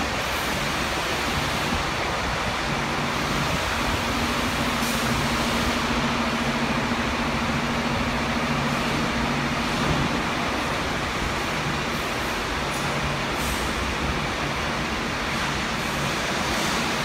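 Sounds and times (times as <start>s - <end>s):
broad rushing machinery noise: 0.0s - 17.0s.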